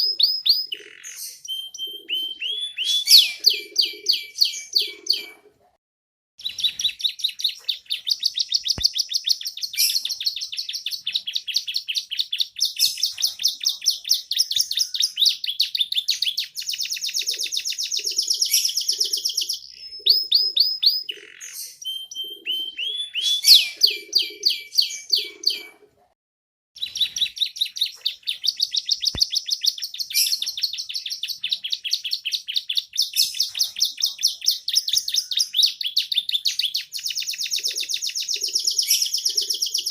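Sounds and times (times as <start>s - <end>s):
canary singing trilling song: 0.0s - 5.5s, 6.4s - 25.9s, 26.8s - 39.9s.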